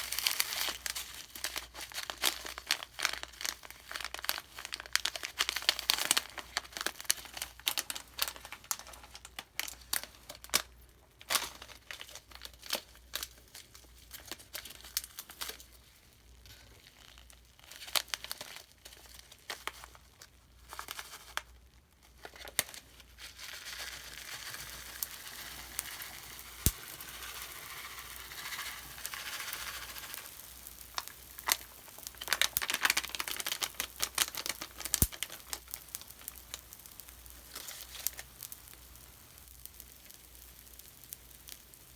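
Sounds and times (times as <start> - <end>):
foam crackling and fizzing: 0.0 - 41.9.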